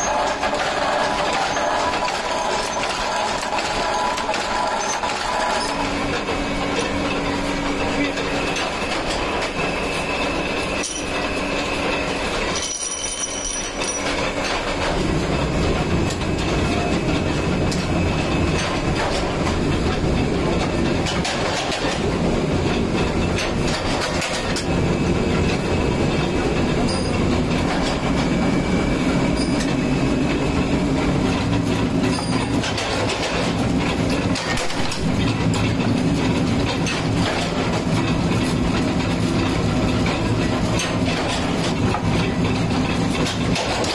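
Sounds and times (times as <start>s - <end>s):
machinery rumble: 0.0s - 43.9s
rhythmic metallic clatter and clanks: 0.0s - 43.9s.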